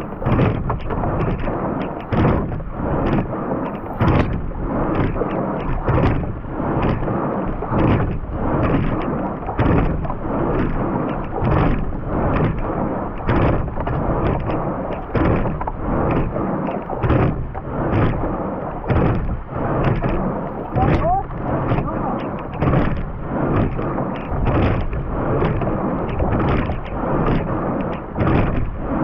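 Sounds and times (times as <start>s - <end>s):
oars knocking in oarlocks: 0.0s - 28.8s
water and wind rushing: 0.0s - 29.0s.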